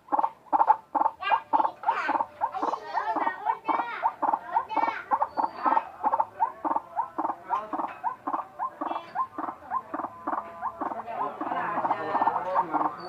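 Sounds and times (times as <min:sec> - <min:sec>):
bird repeated pitched calls: 0:00.0 - 0:13.0.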